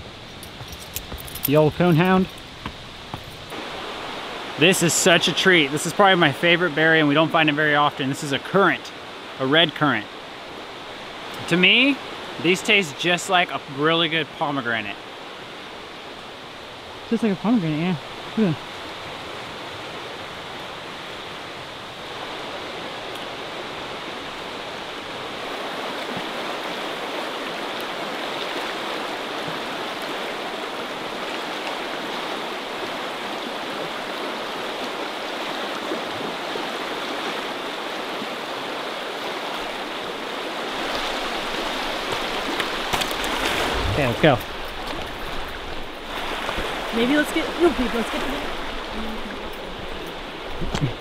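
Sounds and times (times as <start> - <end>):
river rushing over stones: 0.0 - 51.0.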